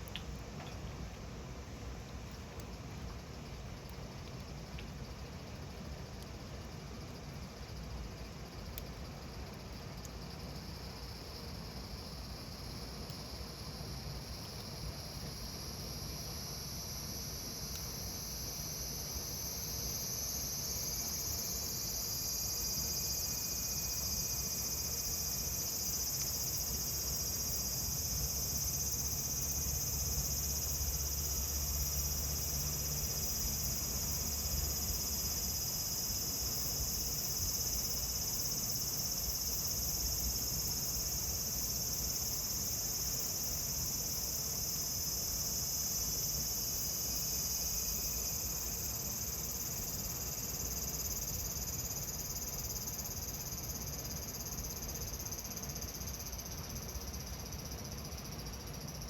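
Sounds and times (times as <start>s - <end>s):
cicadas droning: 0.0s - 59.0s.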